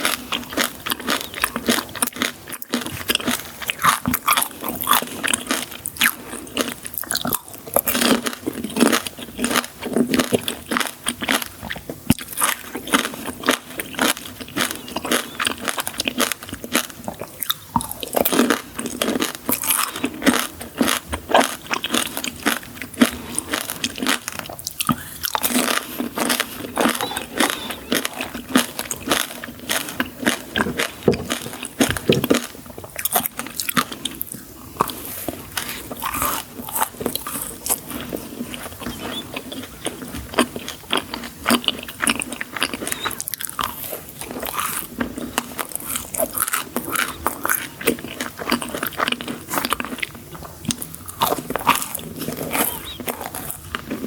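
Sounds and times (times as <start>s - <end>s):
crunching and chewing sweets: 0.0s - 54.0s.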